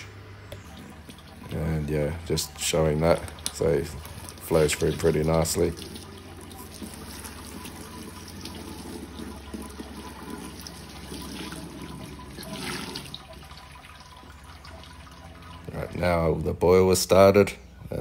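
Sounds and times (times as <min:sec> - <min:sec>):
water splashing and trickling: 0:00.0 - 0:17.2.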